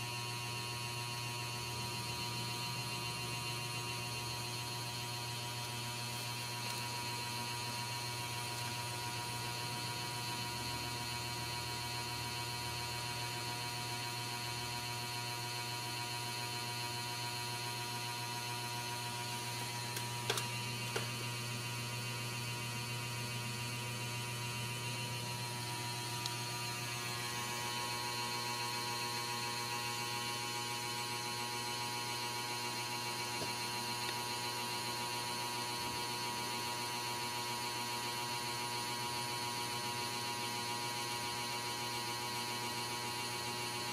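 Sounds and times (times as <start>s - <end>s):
electrical hum with high whine: 0.0s - 43.9s.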